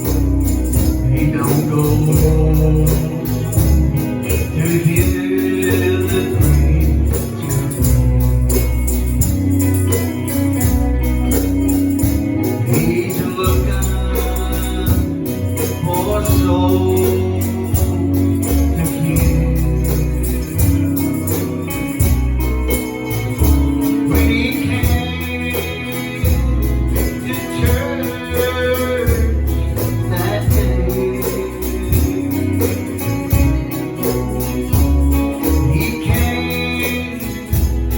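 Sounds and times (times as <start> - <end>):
voices singing gospel: 0.0 - 8.2, 12.5 - 21.0, 23.2 - 37.9
band with deep bass: 0.0 - 37.9
tambourine shaking: 0.0 - 37.9.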